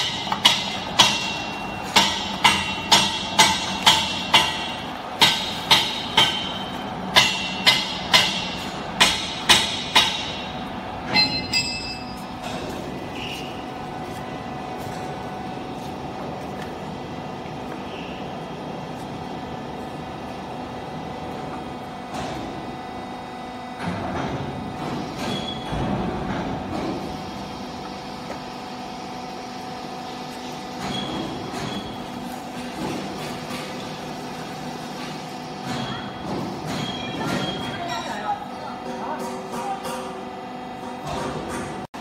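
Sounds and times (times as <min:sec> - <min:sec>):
workshop hum: 0:00.0 - 0:42.0.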